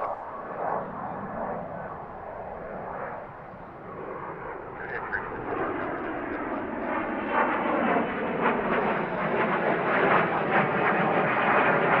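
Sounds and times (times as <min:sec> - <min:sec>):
jet engine rumble with crackle: 0:00.0 - 0:12.0.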